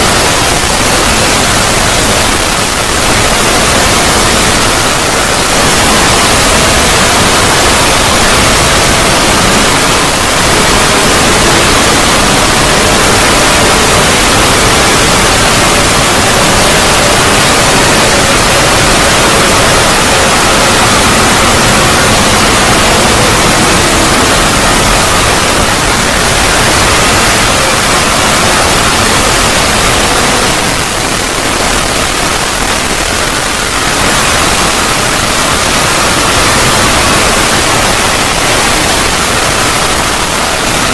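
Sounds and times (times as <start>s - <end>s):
static-like noise wash: 0.0s - 40.9s.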